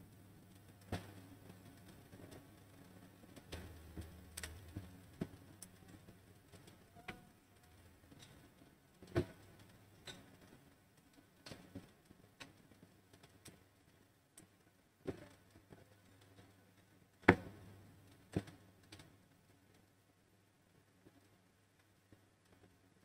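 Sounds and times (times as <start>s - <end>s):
faint clicks and taps: 0.5s - 19.9s, 21.0s - 22.8s.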